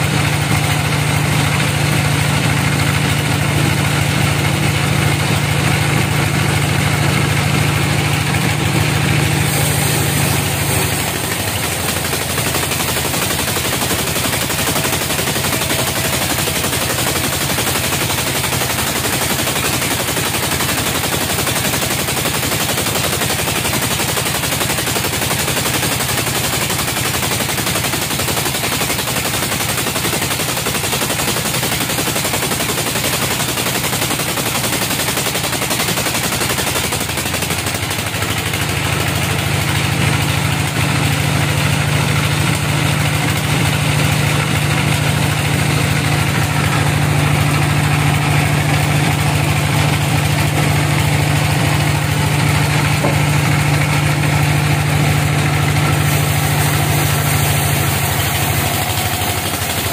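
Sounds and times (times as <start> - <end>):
band sawmill cutting a log: 0.0 - 59.9.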